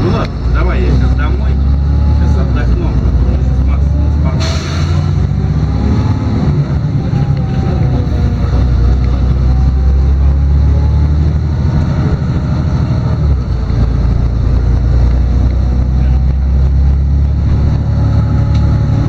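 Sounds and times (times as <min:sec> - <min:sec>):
bus diesel engine drone: 0:00.0 - 0:19.0
road noise: 0:00.0 - 0:19.0.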